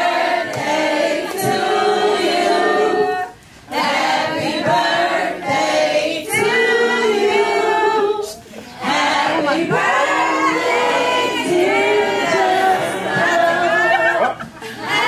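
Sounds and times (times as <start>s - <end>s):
voices singing together: 0.0s - 15.0s.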